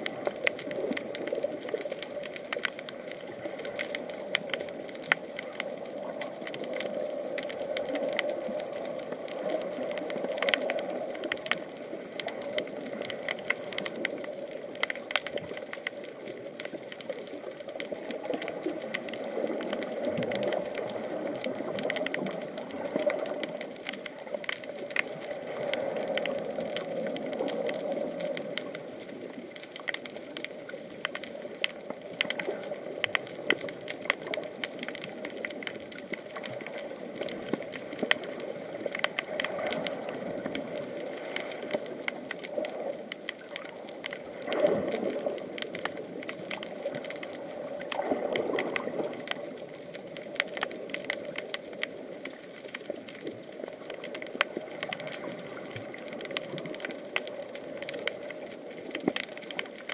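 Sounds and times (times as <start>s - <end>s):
crackle of fine clicks underwater: 0.0s - 59.9s
muffled wash of water: 0.0s - 59.9s.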